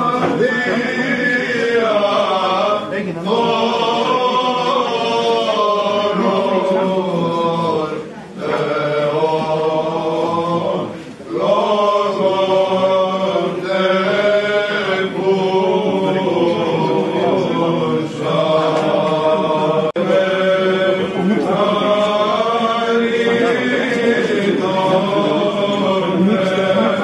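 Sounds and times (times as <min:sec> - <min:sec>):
men chanting: 0:00.0 - 0:27.0.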